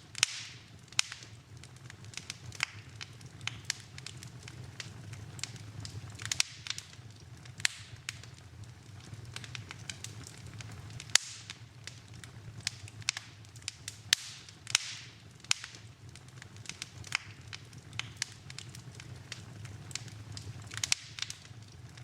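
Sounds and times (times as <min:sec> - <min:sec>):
fire hissing flares: 0:00.0 - 0:22.0
steady low hum: 0:00.0 - 0:22.0
wood fire crackling: 0:00.0 - 0:22.0.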